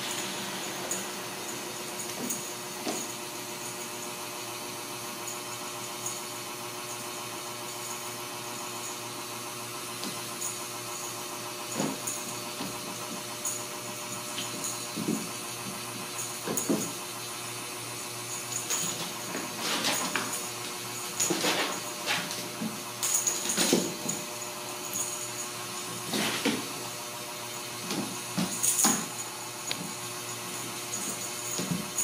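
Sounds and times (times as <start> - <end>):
steady machine hum: 0.0 - 32.0.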